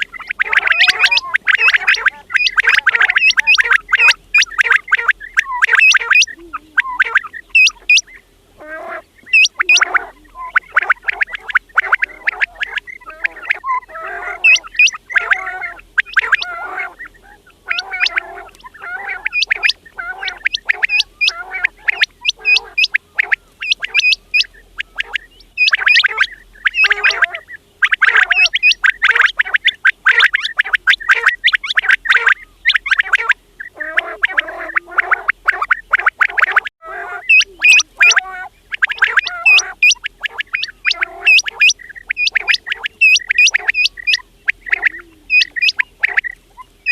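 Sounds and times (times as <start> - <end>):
quails calling: 0.0 - 46.9.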